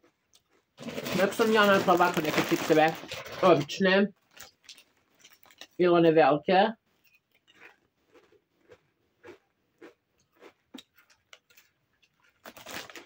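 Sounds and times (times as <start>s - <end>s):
person chewing crunchy chips: 0.0s - 5.8s, 6.9s - 13.0s.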